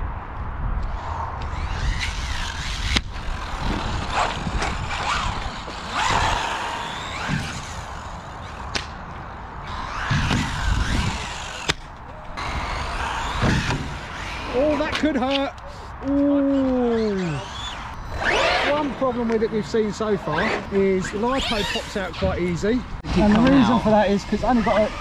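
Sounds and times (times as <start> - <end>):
electric motor whining: 1.4 - 8.7, 9.6 - 15.0, 16.6 - 22.6, 23.2 - 25.0.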